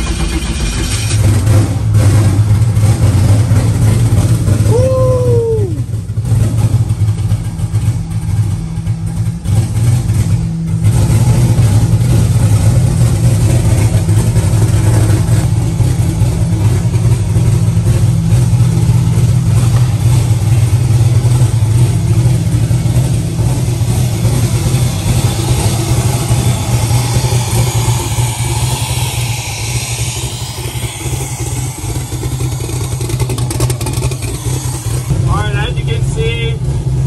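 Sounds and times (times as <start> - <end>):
car engine idling loudly: 0.0 - 37.0.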